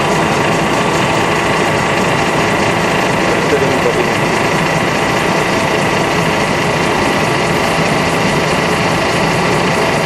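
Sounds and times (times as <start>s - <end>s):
machine drone with high whine: 0.0s - 10.0s.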